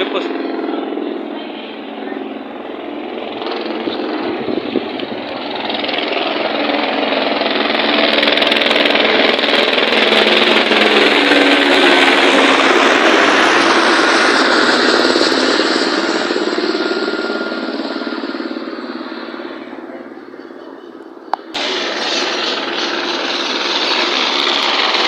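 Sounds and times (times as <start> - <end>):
helicopter rotor chopping: 0.0 - 25.0.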